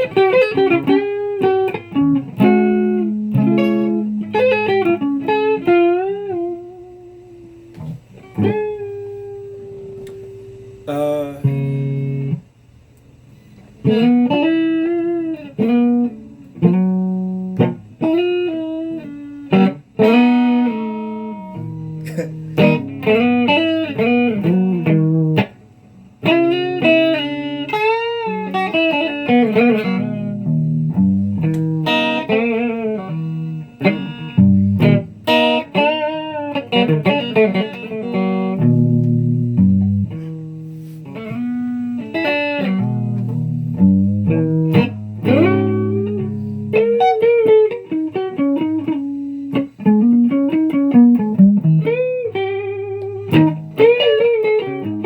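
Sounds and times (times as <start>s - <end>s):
plucked guitar notes: 0.0s - 12.4s, 13.8s - 25.6s, 26.2s - 55.0s.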